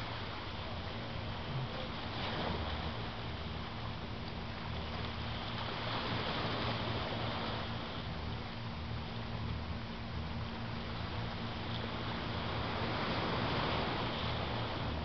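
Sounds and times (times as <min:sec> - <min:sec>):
small waves washing onto shore: 0:00.0 - 0:15.0
wind rumbling on microphone: 0:00.0 - 0:15.0.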